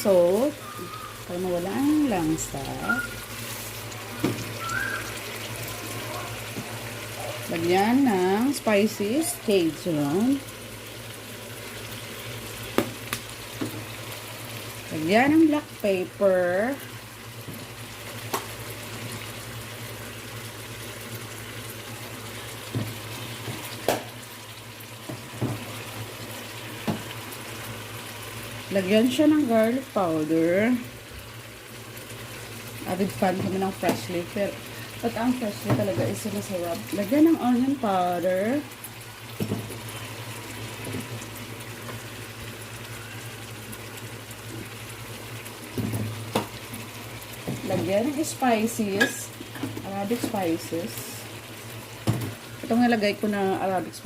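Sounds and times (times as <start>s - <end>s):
chicken sizzling in oil: 0.0s - 54.0s.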